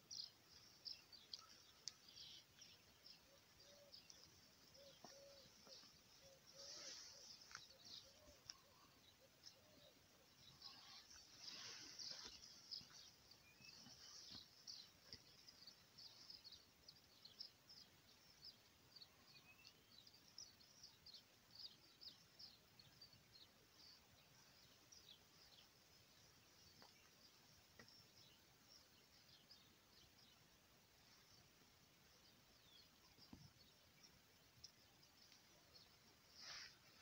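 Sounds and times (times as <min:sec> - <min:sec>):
faint small birds chirping: 0:00.0 - 0:37.0.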